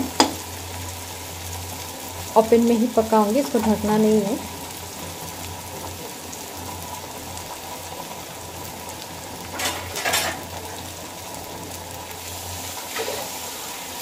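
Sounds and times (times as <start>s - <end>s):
seeds sizzling in hot oil: 0.0s - 14.0s.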